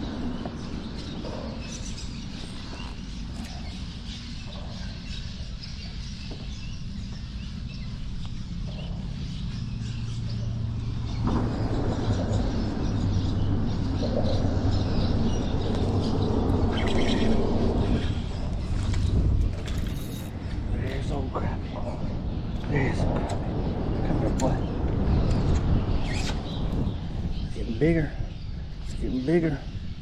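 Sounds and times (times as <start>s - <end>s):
small birds chirping: 0.0s - 30.0s
wind buffeting microphone: 0.0s - 30.0s.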